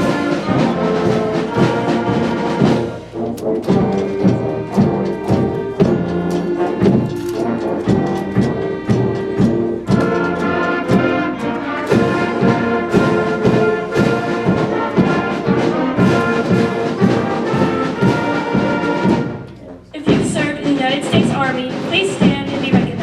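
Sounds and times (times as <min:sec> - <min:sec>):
concert band playing: 0:00.0 - 0:23.0
drum strokes: 0:00.0 - 0:23.0.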